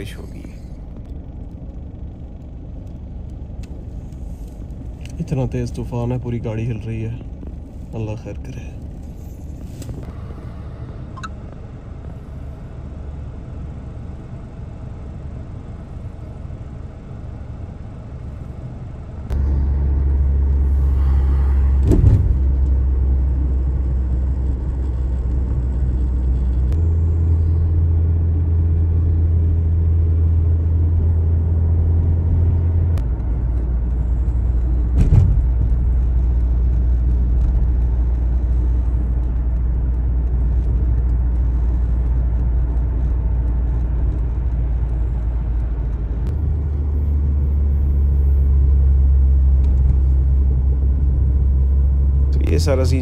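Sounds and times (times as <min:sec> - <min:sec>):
low rumble of wind on car: 0:00.0 - 0:53.0.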